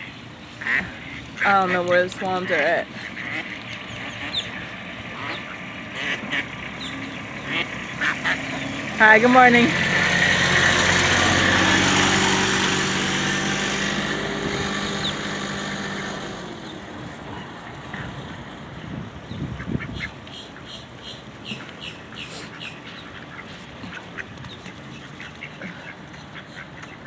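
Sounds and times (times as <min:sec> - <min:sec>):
ducks calling: 0:00.0 - 0:18.5, 0:19.5 - 0:27.0
vehicle engine: 0:00.0 - 0:27.0.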